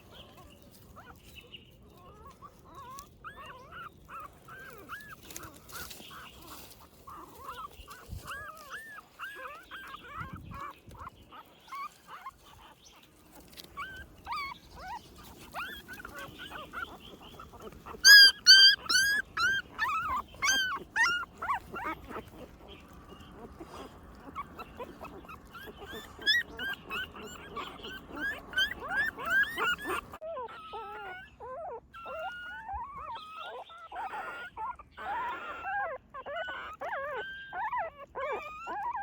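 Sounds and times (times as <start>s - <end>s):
puppies whining: 0.0s - 39.0s.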